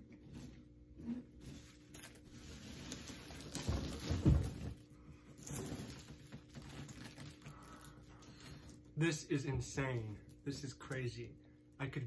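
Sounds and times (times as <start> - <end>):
popcorn rustling: 0.2 - 11.1.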